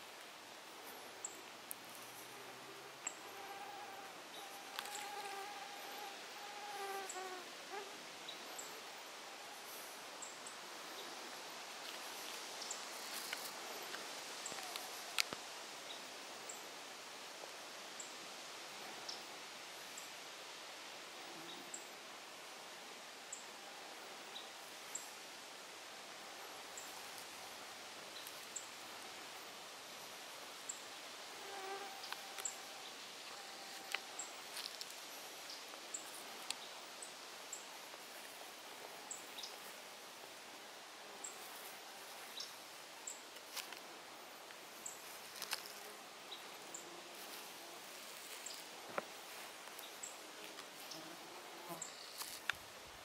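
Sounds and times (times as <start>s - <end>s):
insects buzzing: 0.0s - 20.2s, 21.0s - 53.0s.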